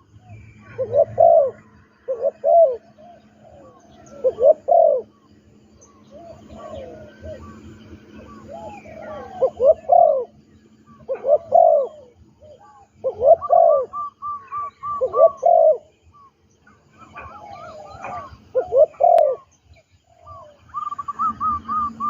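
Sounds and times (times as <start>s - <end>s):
doves cooing: 0.0s - 22.0s
steady low hum: 0.0s - 22.0s.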